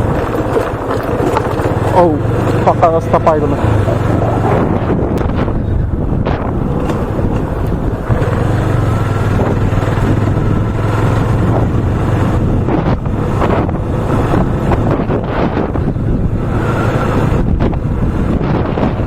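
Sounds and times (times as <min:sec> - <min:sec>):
motorcycle engine cruising: 0:00.0 - 0:19.0
wind noise on microphone: 0:00.0 - 0:19.0.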